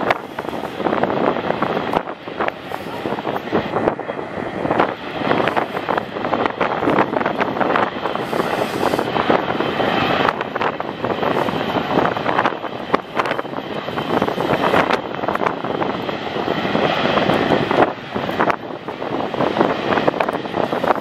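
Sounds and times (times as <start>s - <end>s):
jet engines at taxi power: 0.0s - 21.0s
wind buffeting microphone: 0.0s - 21.0s.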